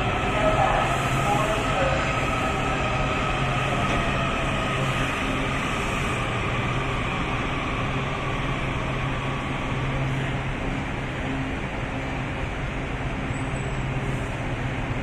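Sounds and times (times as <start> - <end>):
subway train electrical hum: 0.0 - 15.0.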